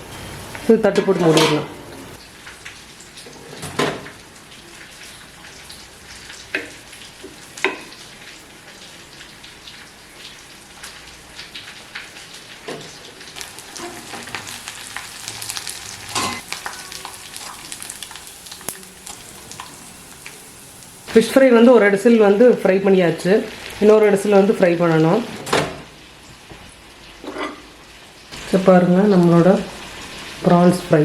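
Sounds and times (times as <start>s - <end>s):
fish sizzling in oil: 0.0s - 31.0s.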